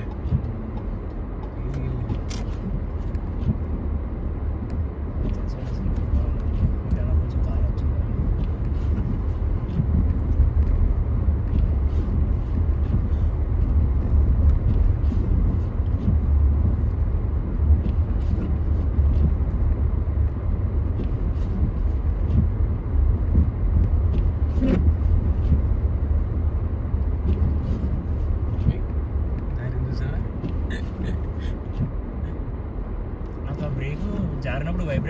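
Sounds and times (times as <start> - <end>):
road and engine drone in car: 0.0 - 35.0.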